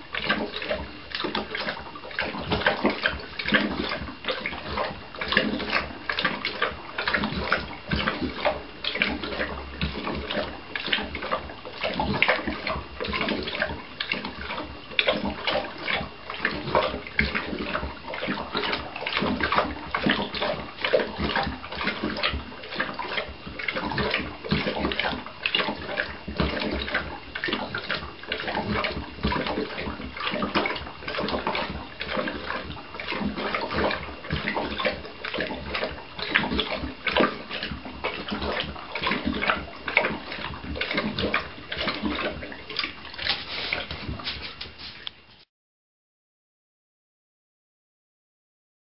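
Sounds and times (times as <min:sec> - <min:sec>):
dog lapping water from a bowl: 0:00.0 - 0:45.2.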